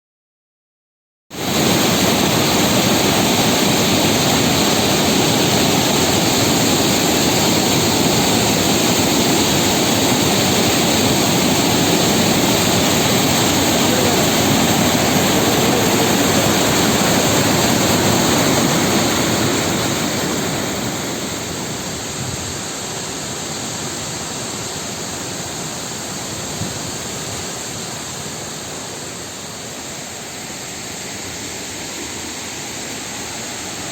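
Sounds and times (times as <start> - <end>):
waterfall rushing: 1.4 - 33.9.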